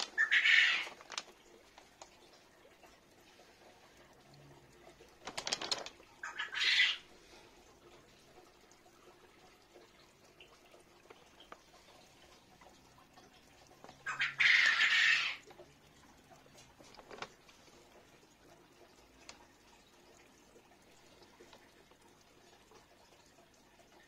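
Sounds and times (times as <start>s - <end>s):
water trickling in a pond: 0.0s - 24.0s.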